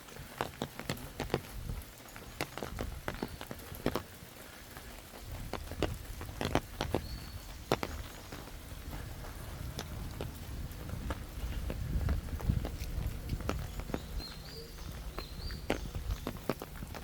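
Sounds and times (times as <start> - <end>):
footsteps walking: 0.0 - 17.0.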